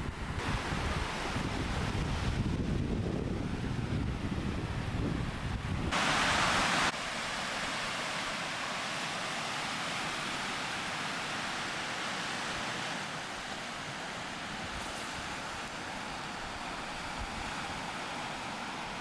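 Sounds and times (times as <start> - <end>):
wind and water rushing: 0.0 - 19.0.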